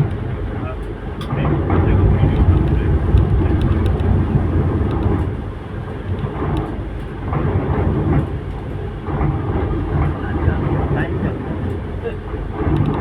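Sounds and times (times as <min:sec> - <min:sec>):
deep steady rumble: 0:00.0 - 0:13.0
rain: 0:00.0 - 0:13.0.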